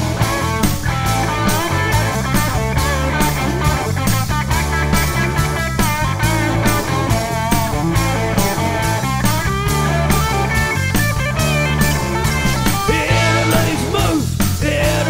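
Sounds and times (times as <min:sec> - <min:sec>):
bass guitar: 0:00.0 - 0:15.0
drum kit beat: 0:00.0 - 0:15.0
electric guitar lead: 0:00.0 - 0:15.0.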